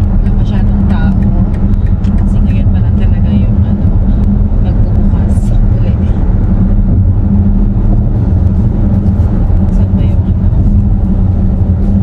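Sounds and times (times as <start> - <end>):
car road and engine rumble: 0.0 - 12.0
constant droning tone: 0.0 - 12.0.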